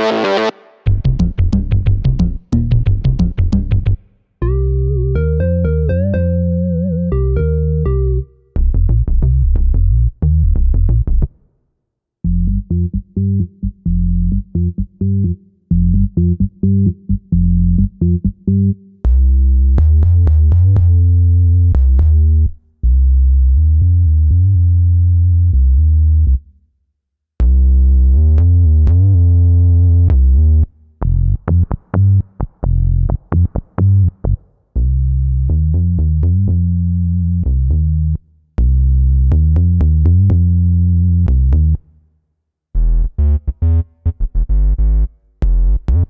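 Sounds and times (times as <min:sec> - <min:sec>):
synth bass riff: 0:00.0 - 0:11.3, 0:12.2 - 0:26.4, 0:27.4 - 0:31.8, 0:32.6 - 0:41.8, 0:42.8 - 0:46.0.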